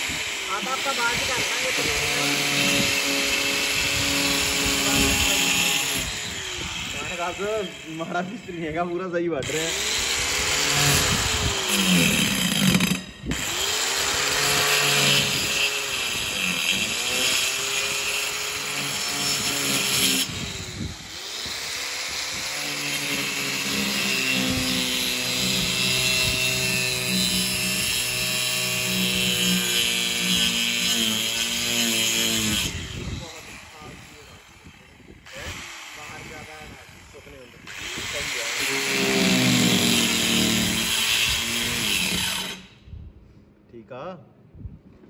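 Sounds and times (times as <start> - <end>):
angle grinder cutting plywood: 0.0 - 42.8.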